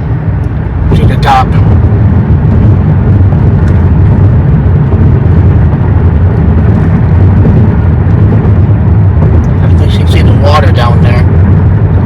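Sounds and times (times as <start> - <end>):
car road and wind rumble: 0.0 - 12.0.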